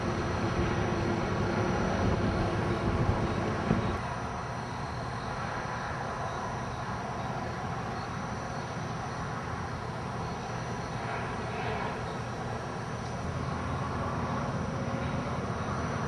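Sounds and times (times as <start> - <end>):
vehicle rumble with hiss: 0.0 - 16.0.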